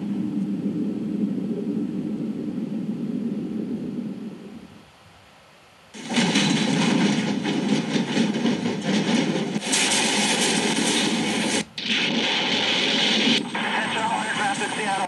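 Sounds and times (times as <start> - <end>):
earthquake rumbling and rattling: 0.0 - 4.8, 5.9 - 15.0.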